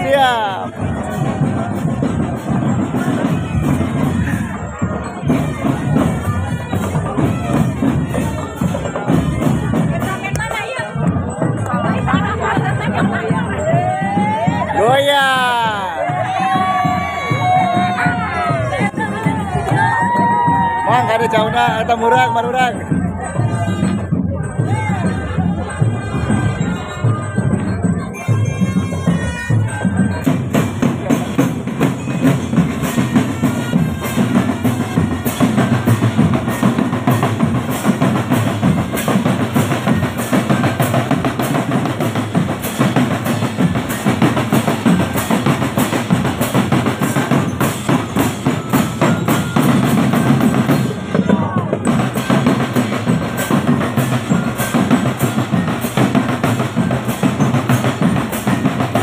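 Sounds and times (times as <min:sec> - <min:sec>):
bass drums: 0:00.0 - 0:59.0
marching drum band playing: 0:00.0 - 0:59.0.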